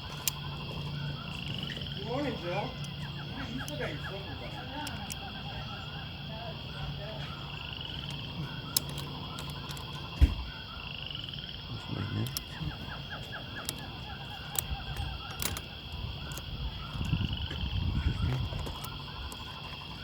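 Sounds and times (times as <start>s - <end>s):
croak-like animal calls: 0.0s - 20.0s
insects buzzing: 0.0s - 20.0s.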